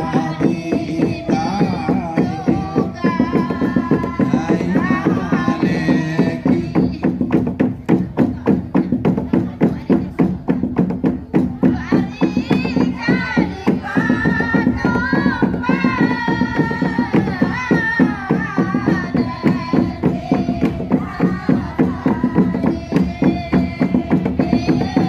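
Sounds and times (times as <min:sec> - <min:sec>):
quick percussive beat: 0:00.0 - 0:25.0
women singing a chant: 0:00.0 - 0:25.0.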